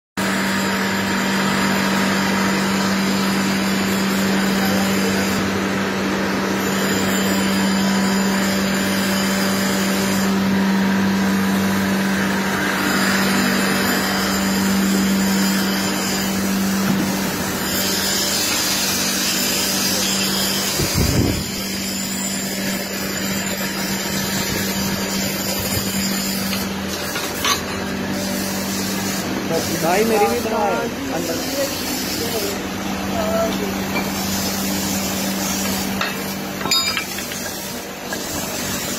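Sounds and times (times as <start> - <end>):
workshop machinery drone: 0.2 - 38.9.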